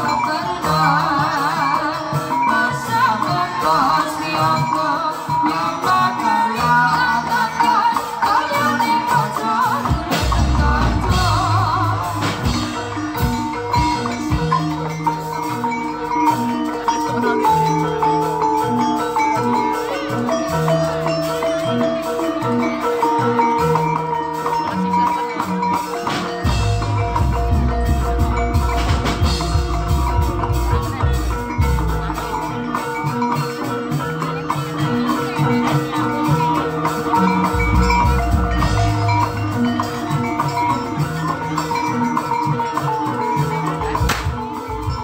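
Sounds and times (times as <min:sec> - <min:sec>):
drum strokes: 0:00.0 - 0:45.0
metallophones playing melody: 0:00.0 - 0:45.0.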